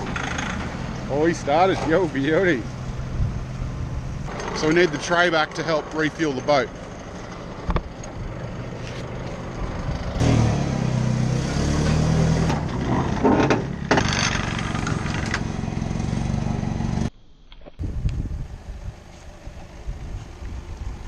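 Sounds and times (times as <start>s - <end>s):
vehicle engine revving: 0.0s - 17.1s.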